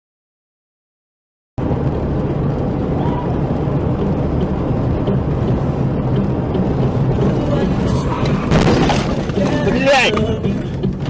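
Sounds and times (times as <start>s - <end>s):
car engine and road noise: 1.6s - 11.0s.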